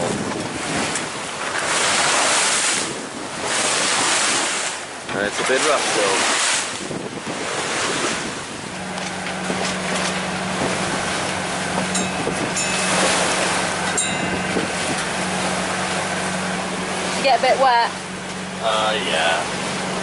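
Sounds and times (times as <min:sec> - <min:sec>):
wind buffeting microphone: 0:00.0 - 0:18.5
boat engine humming: 0:00.0 - 0:20.0
wind and rough water rushing: 0:00.0 - 0:20.0.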